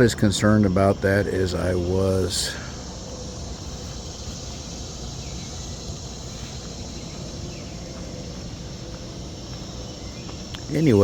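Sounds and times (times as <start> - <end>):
insects trilling: 0.0 - 11.0
low even hum: 0.0 - 11.0.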